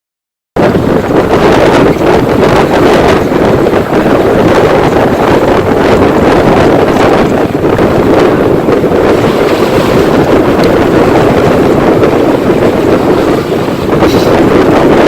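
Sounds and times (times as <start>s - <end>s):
boat under way: 0.6s - 15.0s
wind on microphone: 0.6s - 15.0s.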